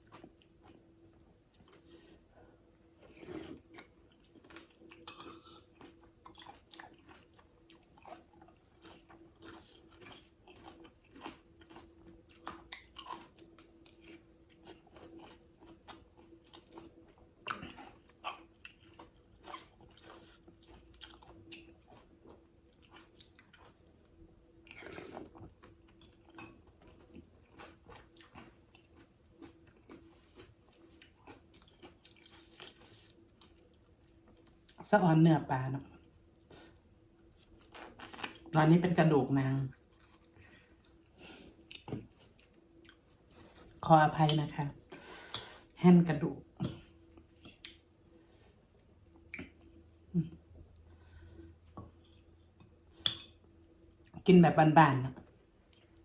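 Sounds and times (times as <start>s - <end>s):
person chewing food: 0.0s - 34.8s, 36.0s - 38.5s, 39.7s - 43.8s, 46.6s - 54.2s
faint steady hum: 0.0s - 56.0s.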